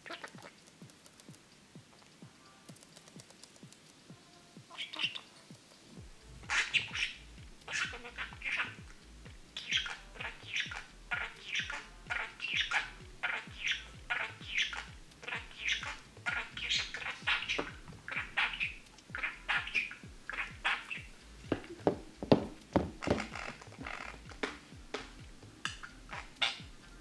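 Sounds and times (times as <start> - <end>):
budgerigar chattering: 0.0 - 0.7, 4.7 - 27.0.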